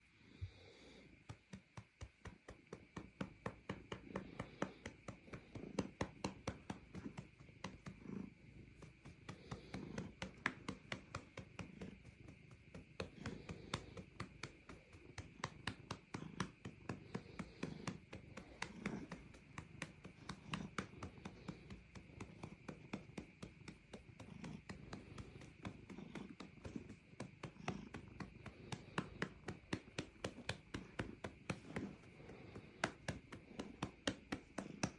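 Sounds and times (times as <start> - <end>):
cat purring: 0.0 - 34.9
hand patting a cat: 0.4 - 34.9.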